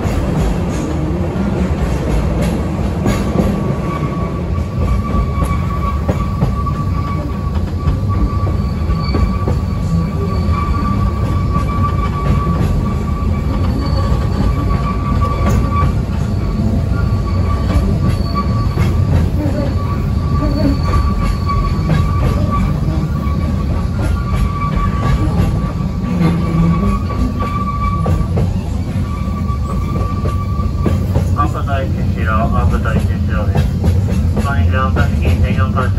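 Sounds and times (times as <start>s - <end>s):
train wheels rumbling on rail: 0.0s - 35.9s
high steady wheel squeal: 2.5s - 33.9s.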